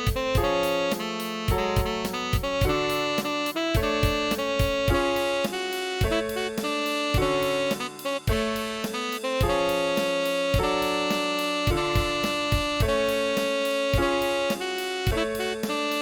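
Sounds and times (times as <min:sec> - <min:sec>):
backing track with keyboard and beat: 0:00.0 - 0:16.0
tenor saxophone melody: 0:00.0 - 0:16.0.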